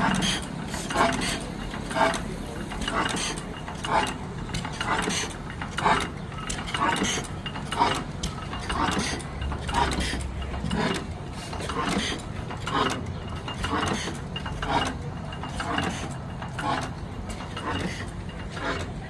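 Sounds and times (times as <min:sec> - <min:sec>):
machinery clacking: 0:00.0 - 0:19.0.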